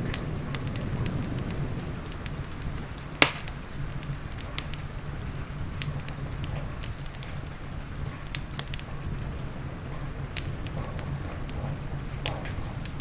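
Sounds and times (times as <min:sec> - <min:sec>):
fire crackling and popping: 0:00.0 - 0:13.0
steady low rumble: 0:00.0 - 0:13.0.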